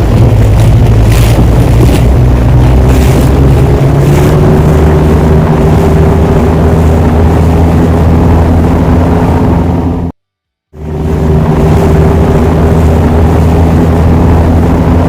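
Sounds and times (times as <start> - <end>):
boat engines droning: 0.0 - 10.1, 10.8 - 15.0.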